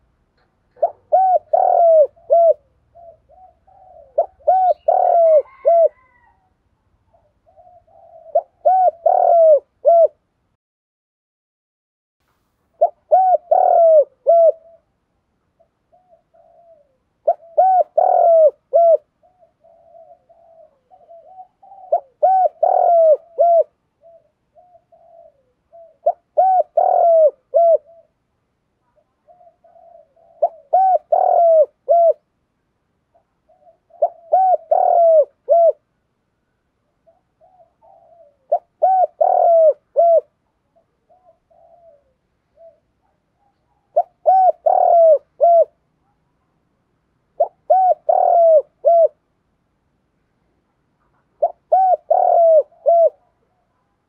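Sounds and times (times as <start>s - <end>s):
dove cooing: 0.0s - 10.3s, 12.7s - 14.9s, 15.6s - 28.2s, 28.8s - 32.3s, 33.1s - 35.9s, 36.9s - 46.2s, 47.3s - 49.3s, 51.1s - 53.9s.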